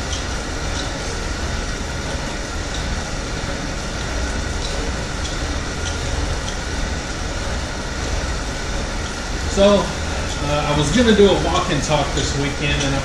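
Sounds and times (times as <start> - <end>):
exercise bike fan whooshing: 0.0 - 13.0.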